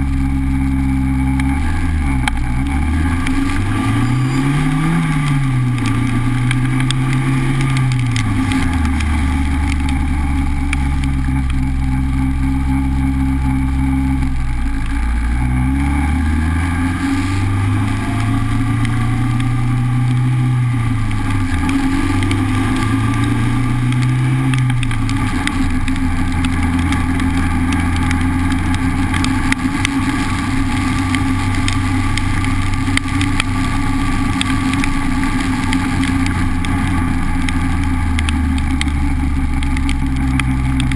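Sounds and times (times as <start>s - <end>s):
car engine running: 0.0s - 40.9s
road and wind noise: 0.0s - 40.9s.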